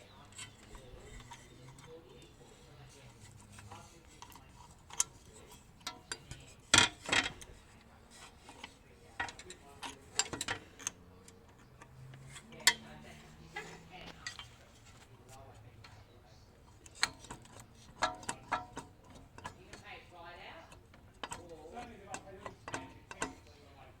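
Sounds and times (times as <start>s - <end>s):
metal tools clinking and knocking: 0.0s - 23.6s.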